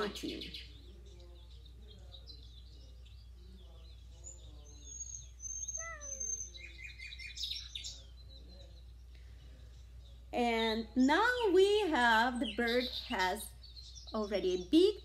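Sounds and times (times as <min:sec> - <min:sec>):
birds whistling and chirping: 0:00.0 - 0:15.0
low steady hum: 0:00.0 - 0:15.0.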